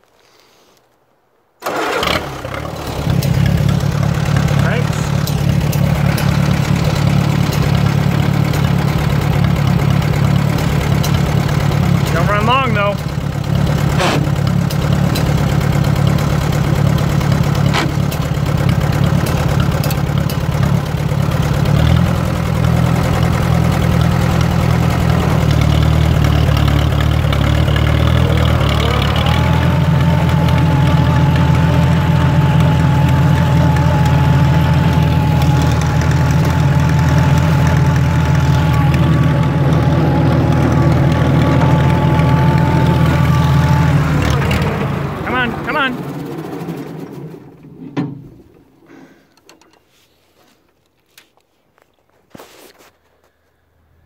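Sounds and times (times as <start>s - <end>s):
engine whine: 1.6s - 49.8s
tractor engine running: 1.6s - 52.1s.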